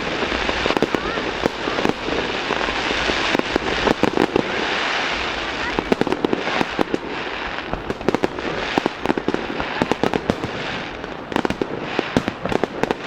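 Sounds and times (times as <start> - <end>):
crackling hiss: 0.0 - 13.0
fireworks cracking and popping: 0.0 - 13.0.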